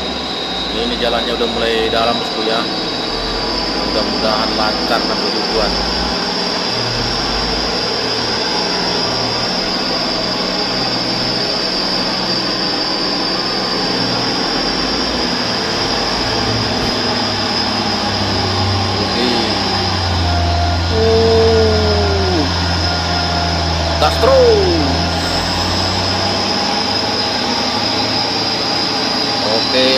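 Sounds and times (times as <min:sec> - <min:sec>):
high-pitched drone: 0:00.0 - 0:29.9
truck diesel engine labouring: 0:00.0 - 0:29.9.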